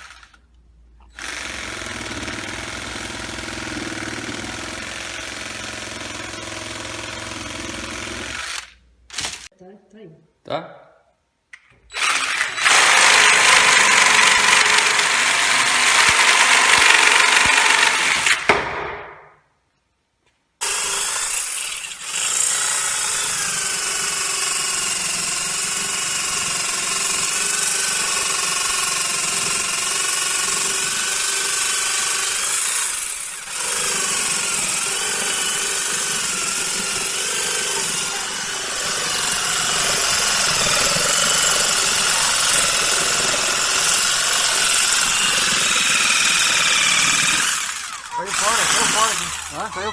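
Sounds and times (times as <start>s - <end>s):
electric drill saw whining: 0.0s - 0.4s, 1.0s - 9.4s, 11.9s - 18.5s, 20.6s - 49.9s.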